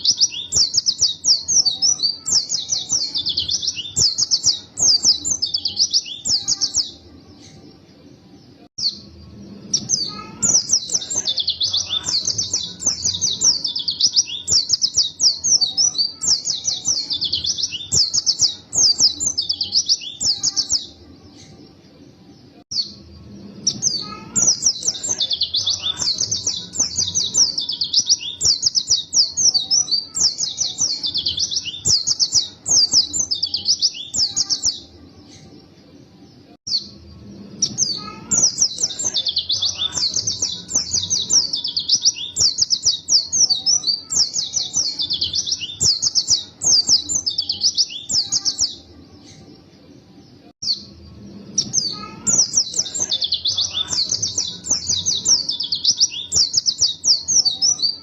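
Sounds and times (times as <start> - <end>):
bird chirping and twittering: 0.0 - 58.0.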